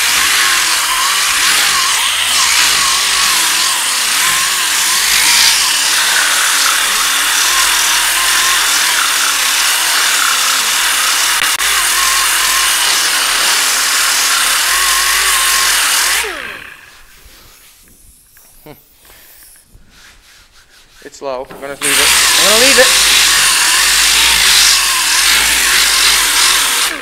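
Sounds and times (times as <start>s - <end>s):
power sander grinding: 0.0s - 19.3s, 21.4s - 27.0s.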